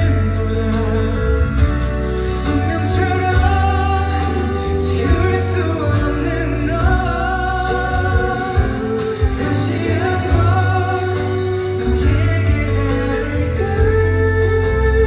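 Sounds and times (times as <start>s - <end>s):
instrumental accompaniment with bass: 0.0s - 15.0s
man singing into microphone: 0.0s - 15.0s.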